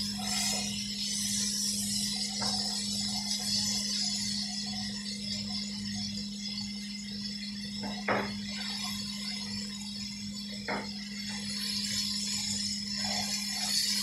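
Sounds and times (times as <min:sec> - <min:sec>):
food frying in a skillet: 0:00.0 - 0:14.0.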